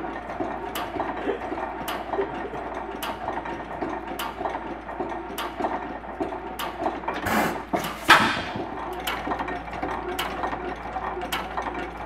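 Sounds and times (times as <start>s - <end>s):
sharp engine clicks: 0.2s - 12.0s.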